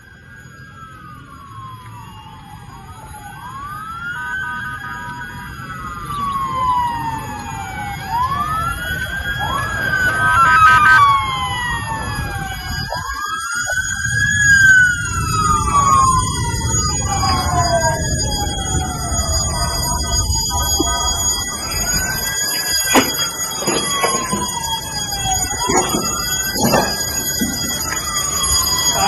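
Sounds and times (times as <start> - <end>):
emergency sirens wailing: 0.0 - 29.0.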